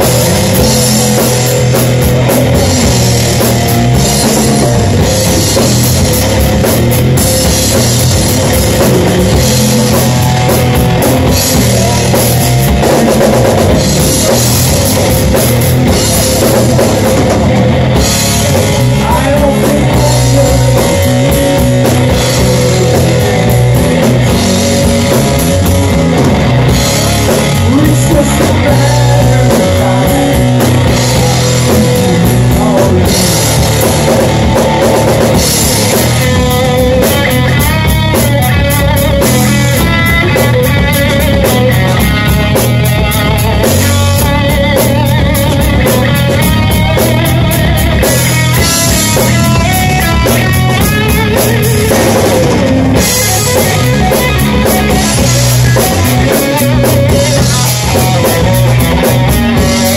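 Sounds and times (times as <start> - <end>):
distorted electric guitar: 0.0 - 59.9
drum kit: 0.0 - 59.9.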